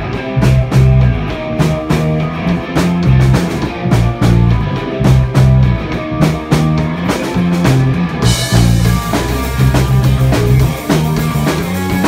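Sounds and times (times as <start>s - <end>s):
drum kit steady beat: 0.0s - 12.0s
electric guitars: 0.0s - 12.0s.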